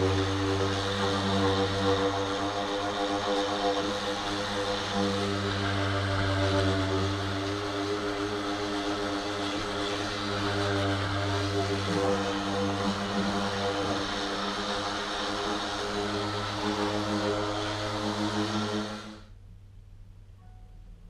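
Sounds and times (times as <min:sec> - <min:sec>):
orbital sander sanding wood: 0:00.0 - 0:19.2.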